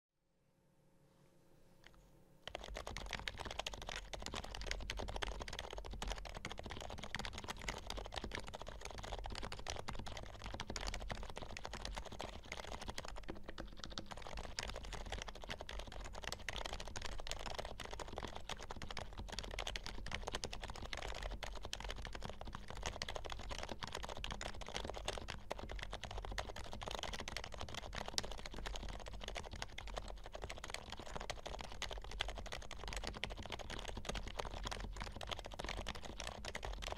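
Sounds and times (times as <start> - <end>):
fast typing on keyboard: 2.4 - 36.9.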